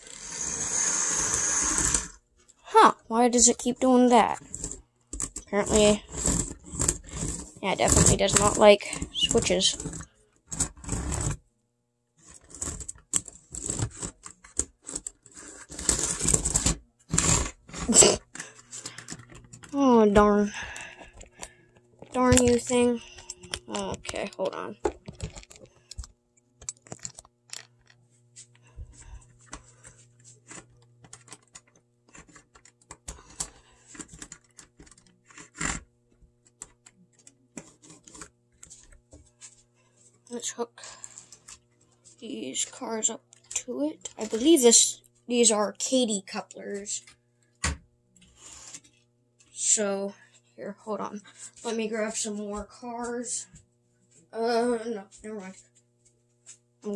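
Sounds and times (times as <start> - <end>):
low electrical hum: 0.0 - 56.9.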